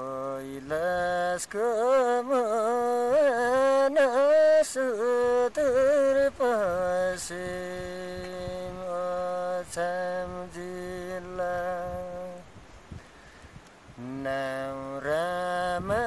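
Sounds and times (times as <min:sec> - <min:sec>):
man singing unaccompanied: 0:00.0 - 0:12.6, 0:13.9 - 0:16.0.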